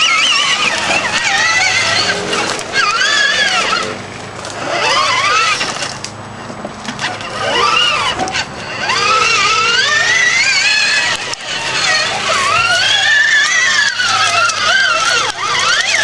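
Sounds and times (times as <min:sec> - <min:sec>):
electric motors whining: 0:00.0 - 0:16.0
wheels knocking over bumps: 0:00.0 - 0:16.0.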